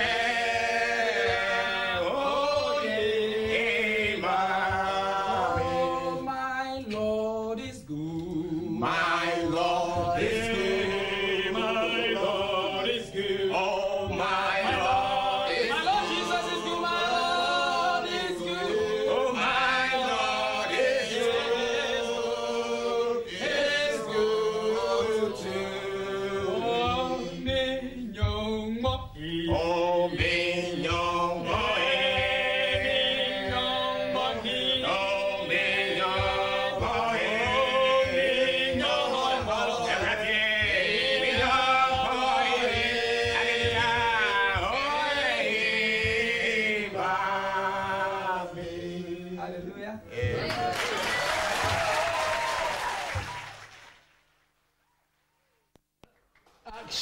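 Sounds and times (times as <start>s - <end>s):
male vocal group singing a cappella: 0.0s - 52.2s.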